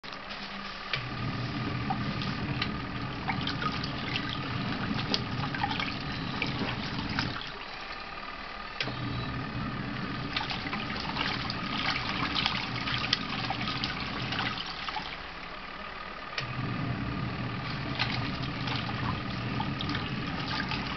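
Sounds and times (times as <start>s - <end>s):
water sloshing in tub: 0.0s - 8.4s, 9.2s - 15.6s, 17.2s - 20.9s
washing machine motor humming: 0.0s - 20.9s.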